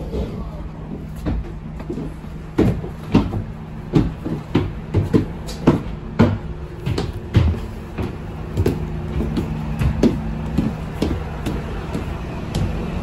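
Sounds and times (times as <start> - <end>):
bus engine hum: 0.0 - 13.0
footsteps on bus floor: 0.0 - 13.0.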